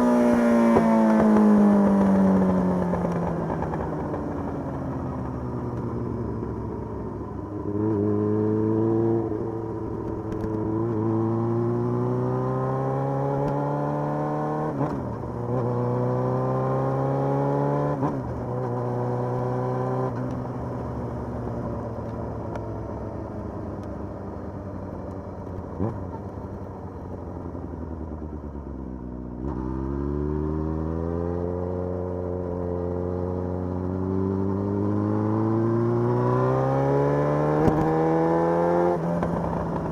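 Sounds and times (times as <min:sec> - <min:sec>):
motorcycle engine revving: 0:00.0 - 0:21.9, 0:29.4 - 0:39.9.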